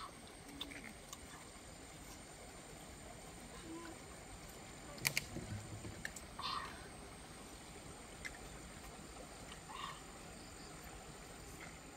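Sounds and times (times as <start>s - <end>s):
soft hissy sounds: 0.0s - 11.9s.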